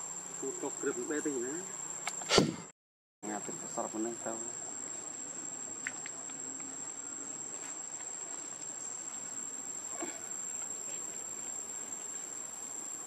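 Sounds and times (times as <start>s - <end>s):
faint background hiss: 0.0s - 2.6s, 3.2s - 13.0s
insects droning: 0.0s - 13.0s.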